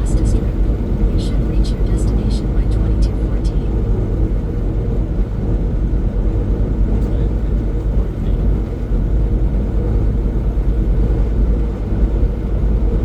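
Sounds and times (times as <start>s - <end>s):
truck engine and tyre rumble: 0.0s - 13.0s.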